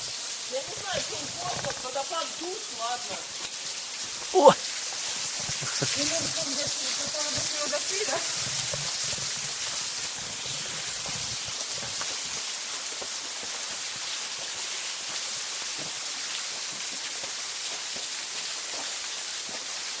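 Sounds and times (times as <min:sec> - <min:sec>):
small waterfall pouring: 0:00.0 - 0:20.0.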